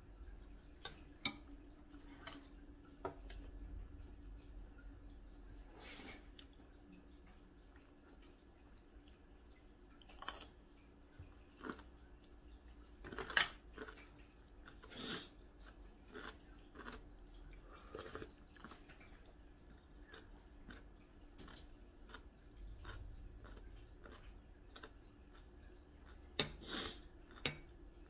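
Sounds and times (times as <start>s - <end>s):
chewing: 5.5s - 28.0s.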